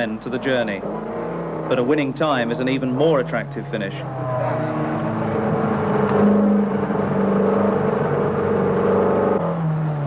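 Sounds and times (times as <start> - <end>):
rally car engine revving high: 0.0 - 10.0.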